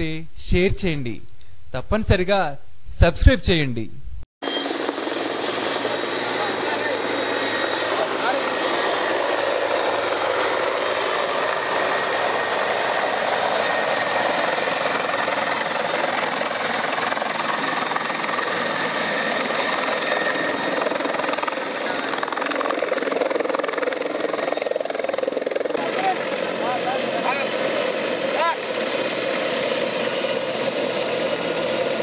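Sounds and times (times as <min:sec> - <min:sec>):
helicopter rotor and turbine roar: 0:04.4 - 0:32.0.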